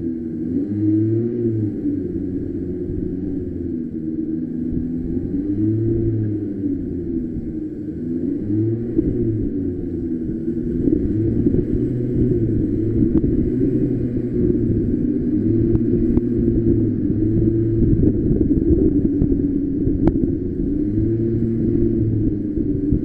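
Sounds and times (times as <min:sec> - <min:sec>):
go-kart engine running: 0:00.0 - 0:23.0.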